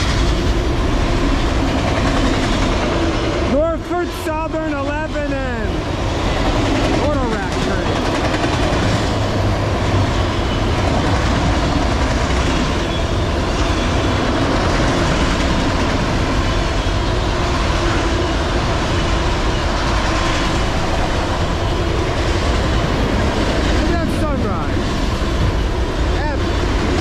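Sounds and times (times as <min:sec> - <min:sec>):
steel train wheels on rail: 0:00.0 - 0:27.0.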